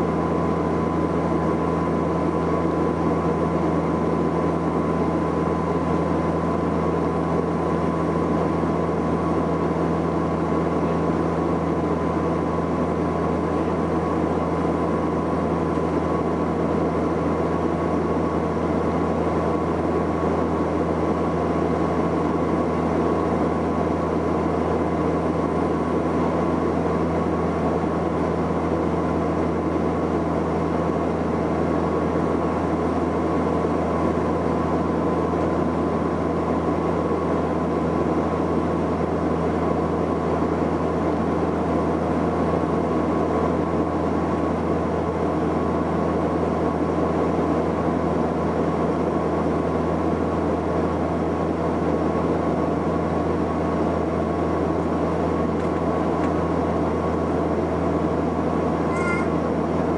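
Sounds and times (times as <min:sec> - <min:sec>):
propeller plane cabin drone: 0:00.0 - 0:59.9.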